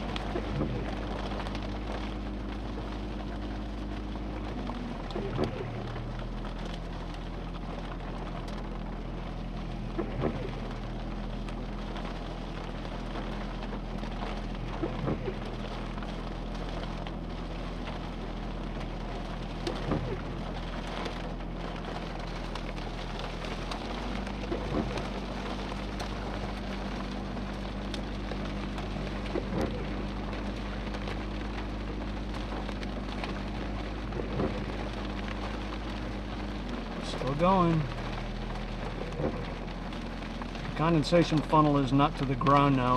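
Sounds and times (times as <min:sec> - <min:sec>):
engine idling hum: 0:00.0 - 0:42.9
rain on a vehicle: 0:00.0 - 0:42.9.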